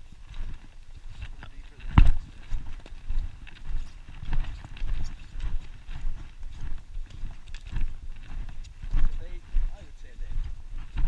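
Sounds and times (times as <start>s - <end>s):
footsteps on loose shale stones: 0.0s - 11.0s.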